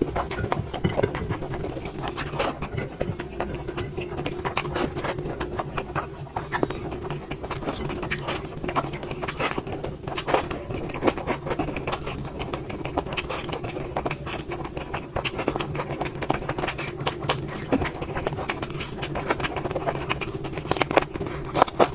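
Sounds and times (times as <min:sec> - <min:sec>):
constant low hum: 0:00.0 - 0:21.9
person chewing food: 0:00.0 - 0:21.9.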